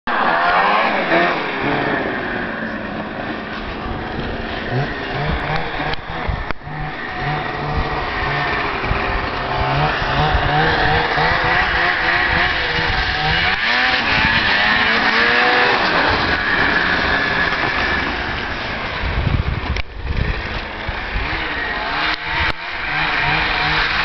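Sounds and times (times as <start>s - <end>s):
snowmobile engine revving: 0.1s - 24.0s.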